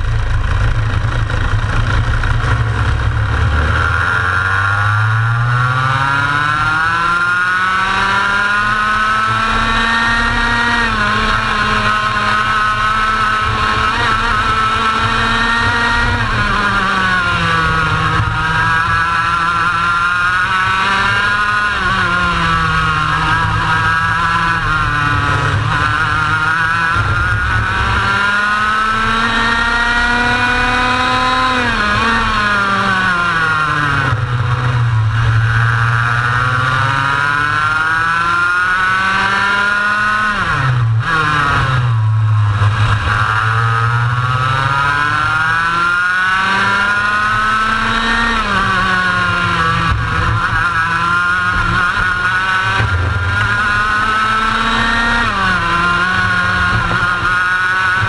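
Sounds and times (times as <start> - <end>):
racing kart engine: 0.0 - 58.0.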